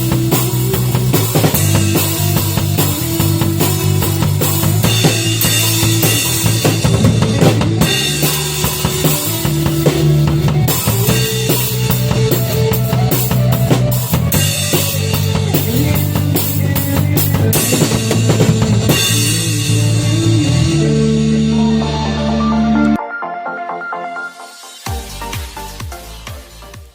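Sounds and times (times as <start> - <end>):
drum kit beat: 0.0 - 23.0, 24.4 - 26.9
held chords: 0.0 - 25.4.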